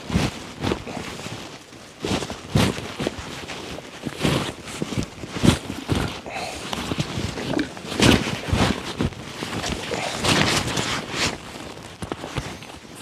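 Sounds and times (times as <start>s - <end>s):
plastic rustling and crunching: 0.0s - 13.0s.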